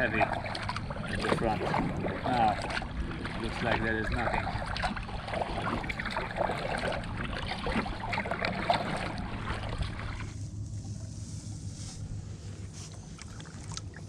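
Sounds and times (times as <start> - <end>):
low wind rumble: 0.0 - 14.0
water splashing around kayak: 0.0 - 14.0.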